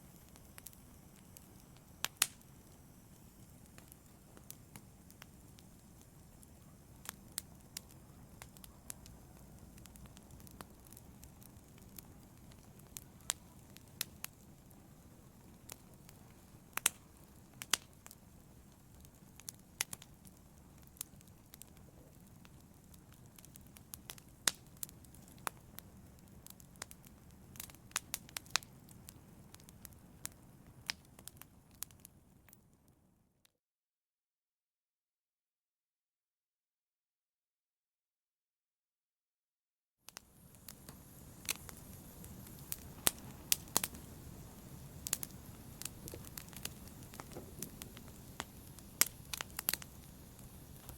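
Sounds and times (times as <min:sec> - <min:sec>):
wood fire crackling: 0:00.0 - 0:33.0, 0:40.1 - 0:50.9.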